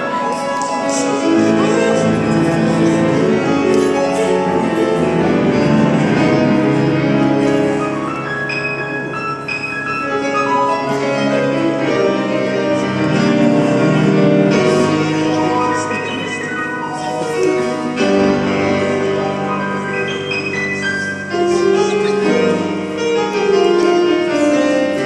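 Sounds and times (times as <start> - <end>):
grand piano playing chords: 0.0 - 25.0.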